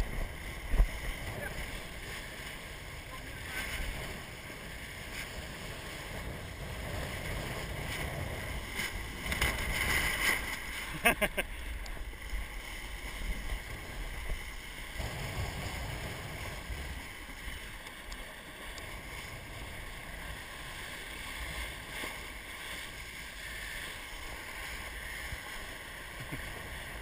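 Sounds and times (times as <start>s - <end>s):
water rushing along boat hull: 0.0s - 27.0s.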